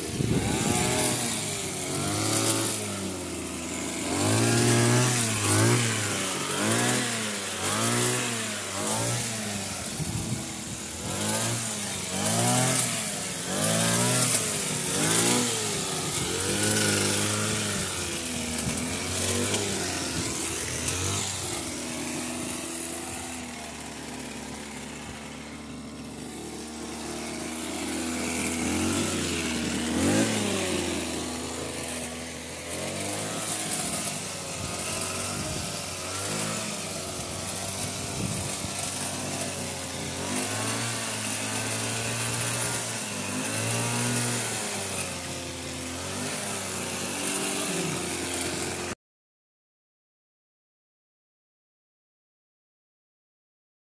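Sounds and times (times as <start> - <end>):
hedge trimmer engine revving: 0.0 - 49.0.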